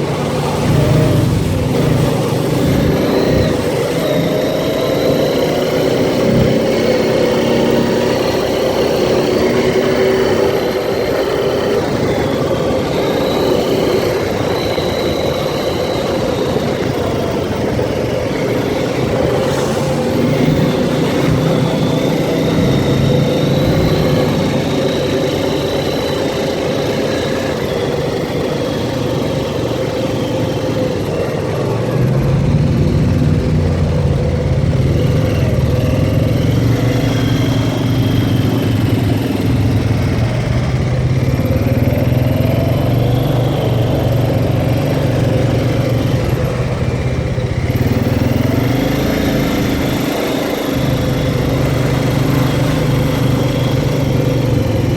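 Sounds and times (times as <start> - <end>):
atv engine running: 0.0 - 54.9
wind and terrain noise: 0.0 - 54.9.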